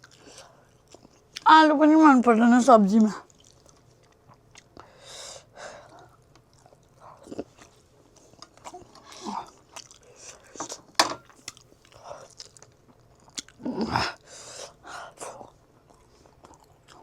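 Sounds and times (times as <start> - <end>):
person chewing: 0.0 - 1.5, 3.2 - 5.0, 5.8 - 17.0.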